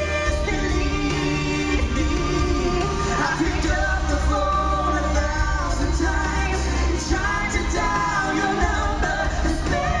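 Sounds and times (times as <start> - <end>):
full band with steady bass: 0.0 - 10.0
man and woman singing duet: 0.0 - 10.0.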